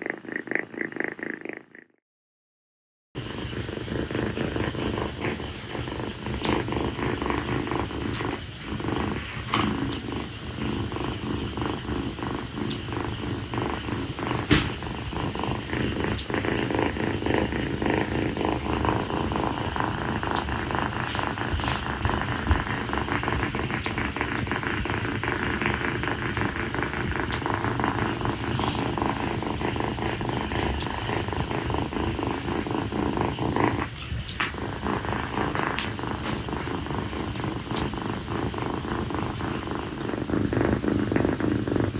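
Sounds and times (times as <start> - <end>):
kitten purring: 0.0 - 2.0, 3.2 - 41.9.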